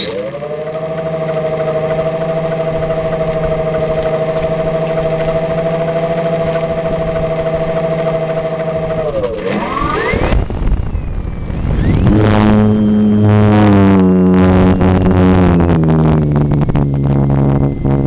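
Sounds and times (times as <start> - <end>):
motor running: 0.0 - 18.0.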